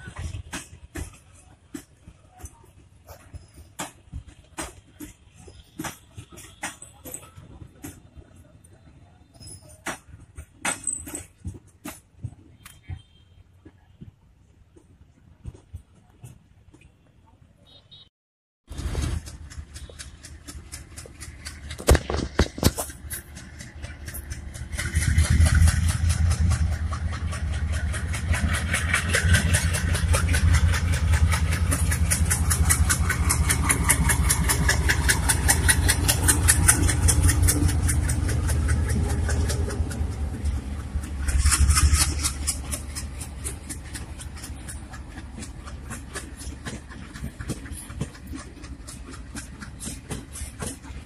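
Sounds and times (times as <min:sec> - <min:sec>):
train wheels clattering on rails: 0:00.0 - 0:16.9, 0:18.7 - 0:51.0
diesel engine rumble: 0:00.0 - 0:17.5, 0:18.6 - 0:51.0.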